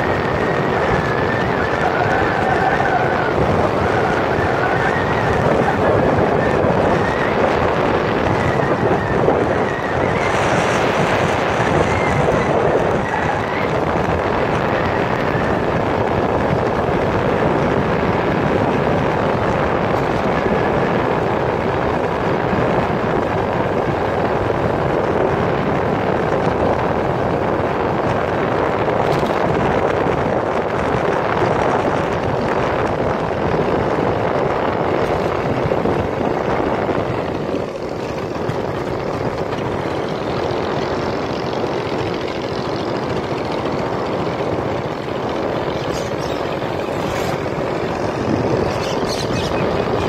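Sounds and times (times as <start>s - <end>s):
vehicle running: 0.0s - 50.0s
wind rushing over microphone: 0.0s - 50.0s.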